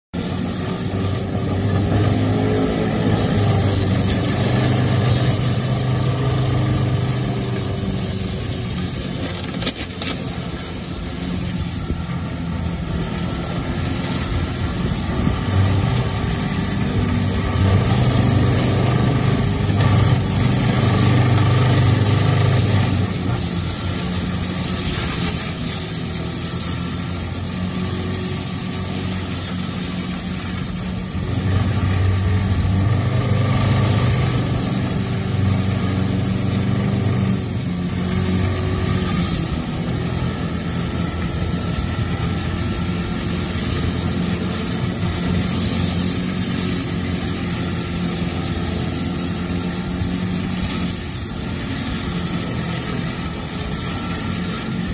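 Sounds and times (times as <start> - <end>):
excavator diesel engine drone: 0.1 - 54.9
mulcher rotor whirring hiss: 0.2 - 54.9.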